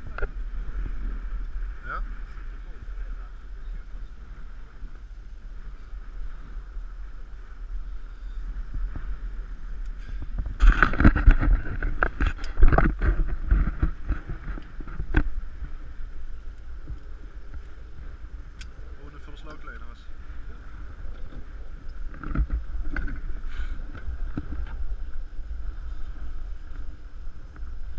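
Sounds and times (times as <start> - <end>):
water lapping against boat hull: 0.0 - 27.9
wind rumbling on microphone: 0.0 - 27.9.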